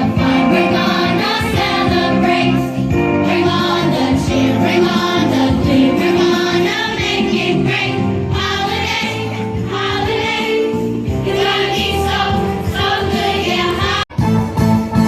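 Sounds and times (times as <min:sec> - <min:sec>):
choir singing christmas music: 0:00.0 - 0:15.0
instrumental accompaniment: 0:00.0 - 0:15.0.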